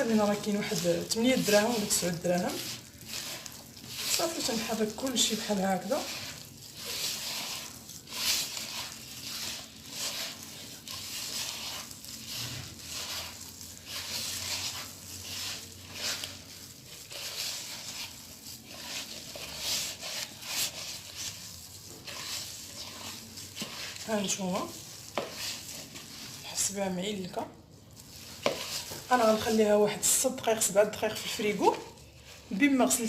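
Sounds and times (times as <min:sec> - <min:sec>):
dough stirred in bowl: 0:00.0 - 0:33.0.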